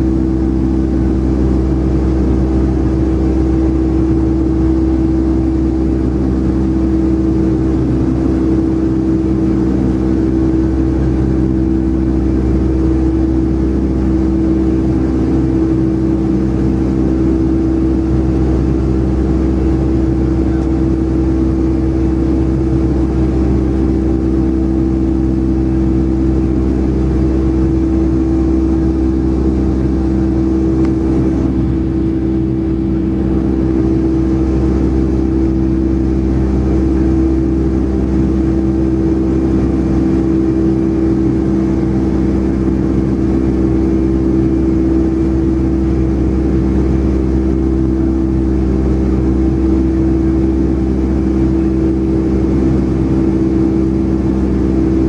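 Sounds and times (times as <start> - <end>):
jet engines droning in cabin: 0.0 - 55.0.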